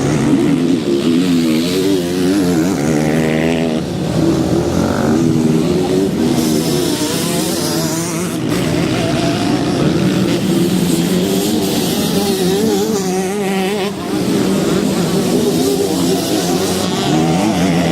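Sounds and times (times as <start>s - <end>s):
motocross engine revving: 0.0s - 17.9s.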